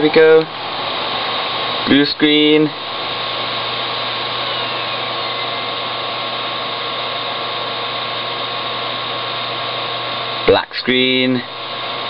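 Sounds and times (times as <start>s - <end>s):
low hum: 0.0s - 10.6s
steady hiss: 0.0s - 12.0s.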